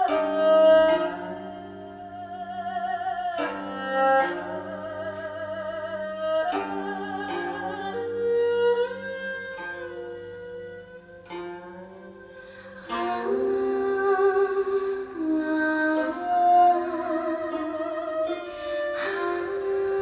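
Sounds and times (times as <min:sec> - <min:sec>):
bowed string melody: 0:00.0 - 0:20.0
plucked string accompaniment: 0:00.0 - 0:20.0.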